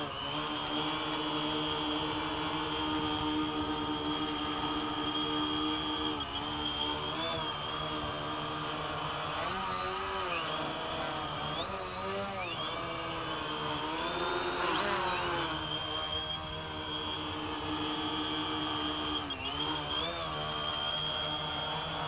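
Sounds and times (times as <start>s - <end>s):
quadcopter propellers buzzing: 0.0s - 22.0s.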